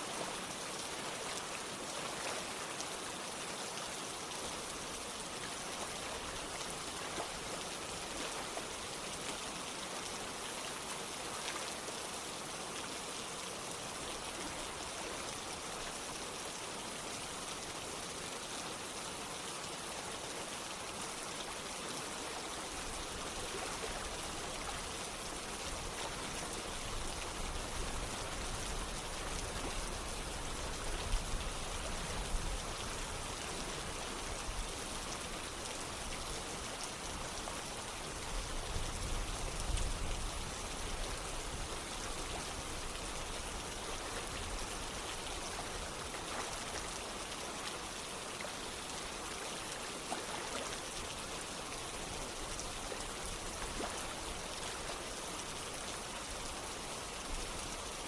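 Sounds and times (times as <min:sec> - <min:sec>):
running water: 0:00.0 - 0:58.0
steady rain: 0:00.0 - 0:58.0.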